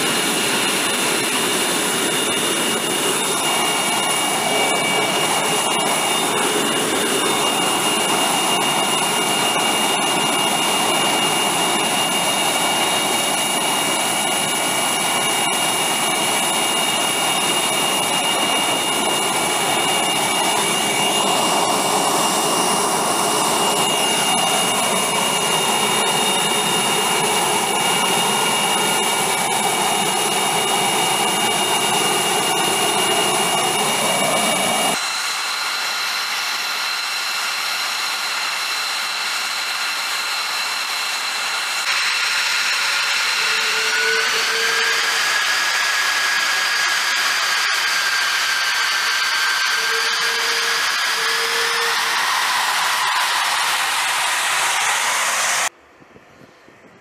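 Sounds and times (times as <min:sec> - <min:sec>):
high turbine whines: 0:00.0 - 0:57.0
jet engine rush: 0:00.0 - 0:57.0.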